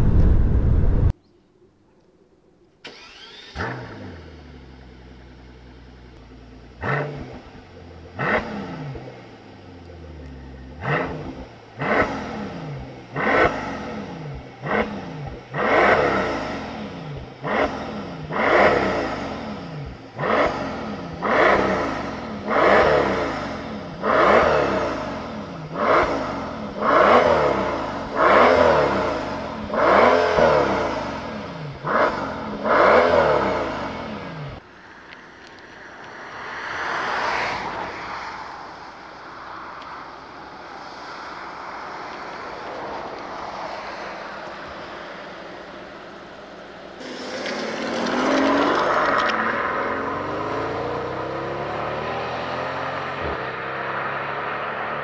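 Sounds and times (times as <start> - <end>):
car engine revving: 2.8 - 34.6, 42.5 - 55.0.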